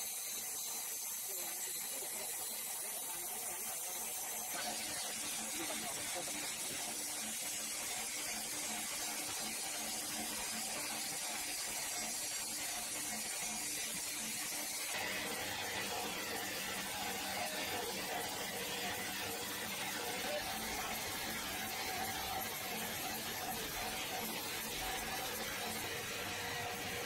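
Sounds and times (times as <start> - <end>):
band saw machinery running: 0.0 - 27.0.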